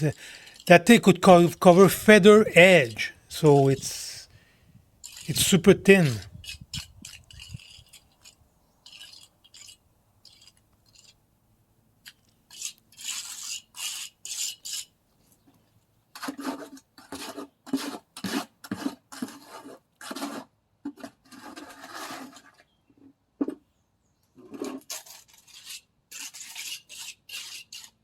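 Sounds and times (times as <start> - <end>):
trowel scraping cement on concrete: 0.0 - 4.3, 5.0 - 11.2, 12.1 - 14.9, 16.1 - 22.8, 24.4 - 28.0.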